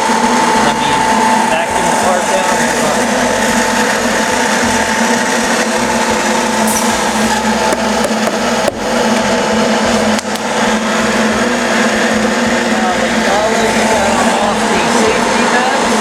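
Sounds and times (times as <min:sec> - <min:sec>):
cnc machine droning: 0:00.0 - 0:16.0.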